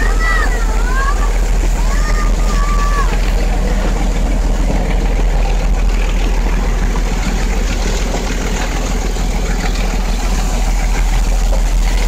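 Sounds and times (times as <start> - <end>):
train coach rumbling and rattling: 0.0 - 12.0.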